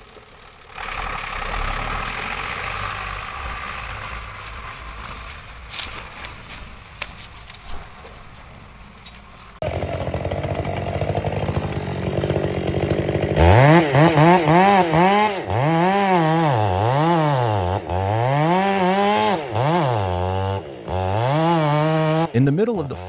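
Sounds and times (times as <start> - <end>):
chainsaw engine revving: 0.0 - 6.7, 9.6 - 23.0.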